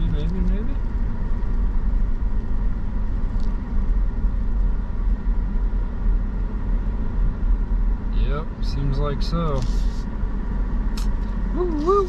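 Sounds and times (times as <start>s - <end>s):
air conditioning blowing: 0.0s - 12.0s
car engine and road noise: 0.0s - 12.0s.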